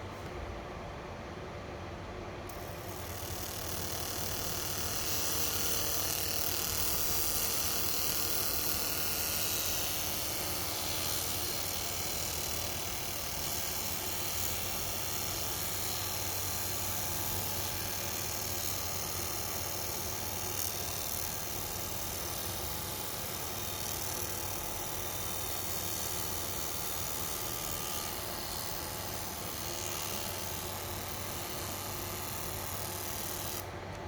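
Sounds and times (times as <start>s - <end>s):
laser high-pitched hissing buzz: 2.5s - 33.7s.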